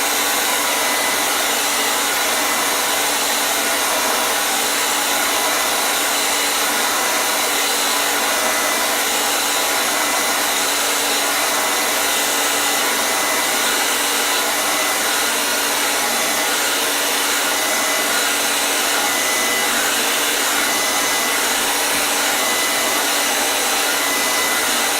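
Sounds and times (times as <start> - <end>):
hair dryer running: 0.0 - 24.9.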